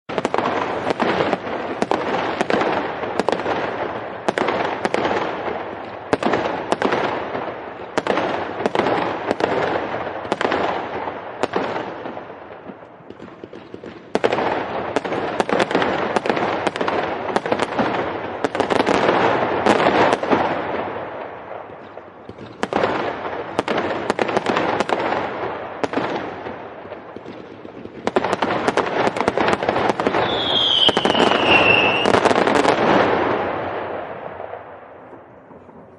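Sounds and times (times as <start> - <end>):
fireworks bangs and crackling: 0.1 - 35.9.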